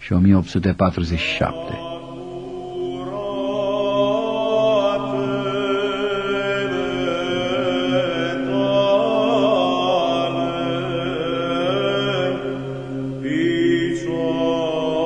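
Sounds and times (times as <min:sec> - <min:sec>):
low held drone: 0:01.0 - 0:15.0
voices chanting slow melody: 0:01.0 - 0:15.0.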